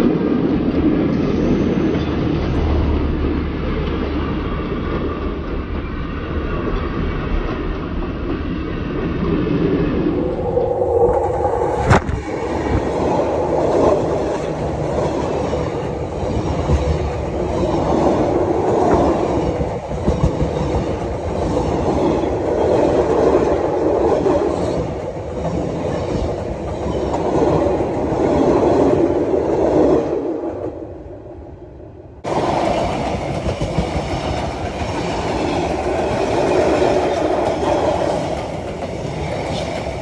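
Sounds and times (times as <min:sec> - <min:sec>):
train wheels rumbling on rails: 0:00.0 - 0:31.3, 0:32.1 - 0:40.0.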